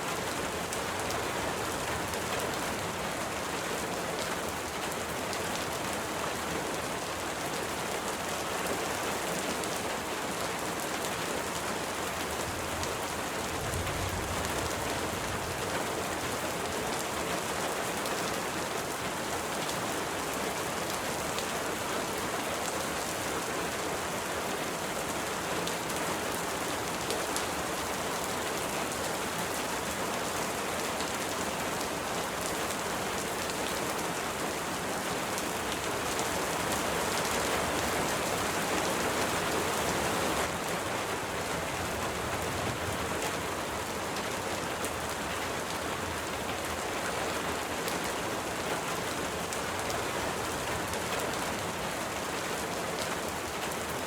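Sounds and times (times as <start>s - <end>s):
steady rain with drop ticks: 0.0s - 54.0s.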